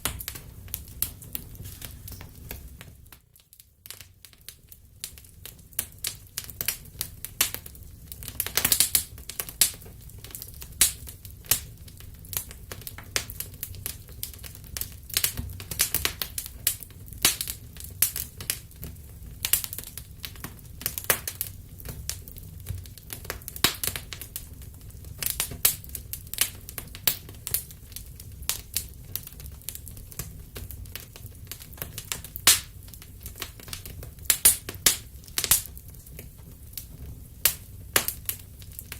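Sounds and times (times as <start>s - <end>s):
low rumble of burning: 0.0s - 38.9s
wood fire crackling and popping: 0.0s - 38.9s.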